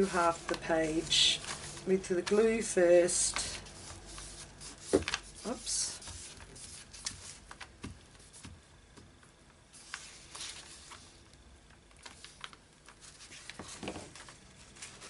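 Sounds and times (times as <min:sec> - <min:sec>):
paper rustling: 0:00.0 - 0:08.6, 0:09.7 - 0:11.2, 0:11.9 - 0:15.0.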